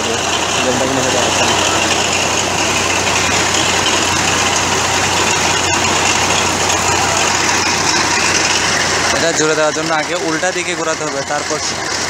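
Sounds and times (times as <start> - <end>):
machinery engine running steadily: 0.0 - 12.0.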